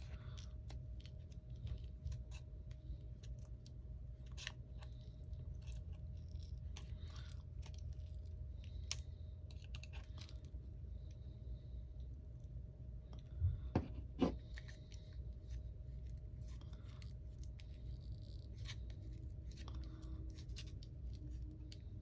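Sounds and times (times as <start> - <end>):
plastic pry tool crackles and scrapes: 0.0 - 10.6, 13.8 - 22.0.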